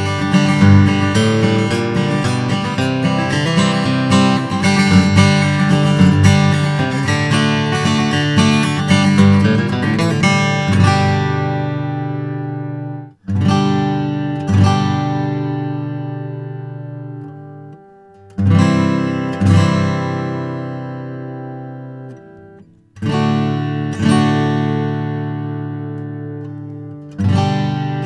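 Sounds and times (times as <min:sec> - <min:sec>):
acoustic guitar strummed chords: 0:00.0 - 0:28.0.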